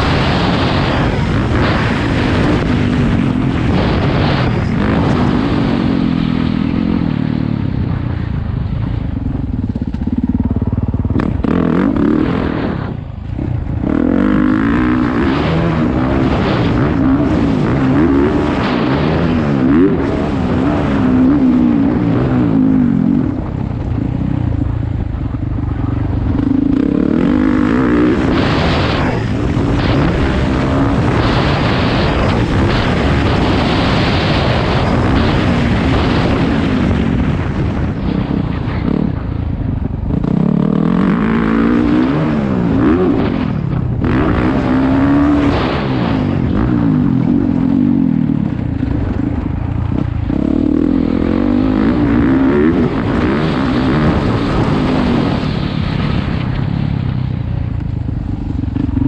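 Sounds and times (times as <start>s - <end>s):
dirt bike engine revving: 0.0s - 7.7s, 9.4s - 56.3s
loud rushing noise: 0.0s - 59.0s.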